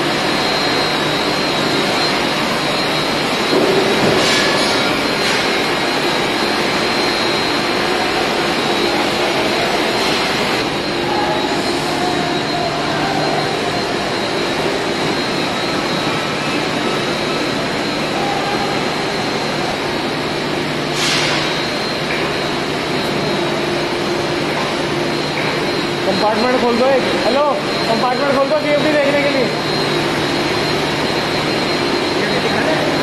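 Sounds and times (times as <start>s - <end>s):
refrigeration machinery drone: 0.0s - 33.0s.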